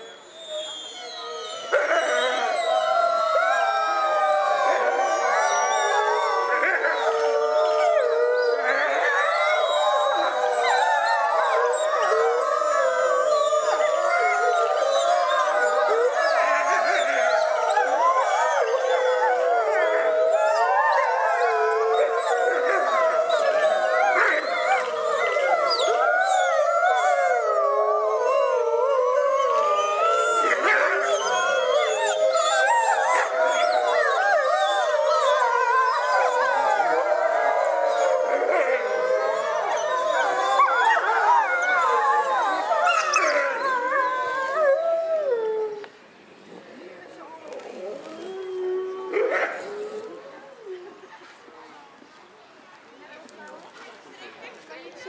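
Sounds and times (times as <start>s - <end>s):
wolves howling in chorus: 0.0s - 51.1s.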